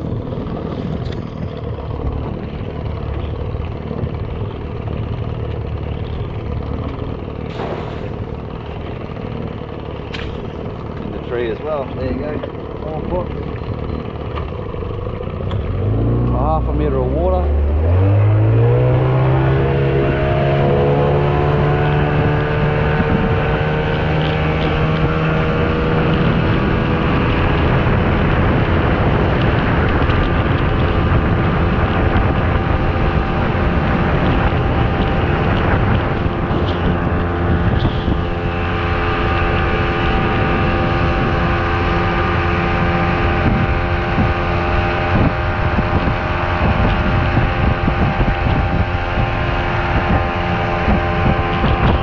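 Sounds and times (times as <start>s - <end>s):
outboard motor running: 0.0s - 52.0s
water rushing along hull: 0.0s - 52.0s
wind buffeting microphone: 0.0s - 52.0s.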